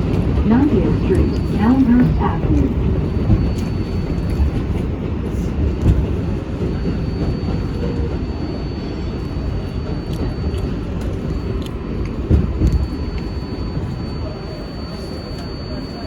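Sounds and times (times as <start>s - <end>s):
subway car rumble: 0.0s - 16.0s.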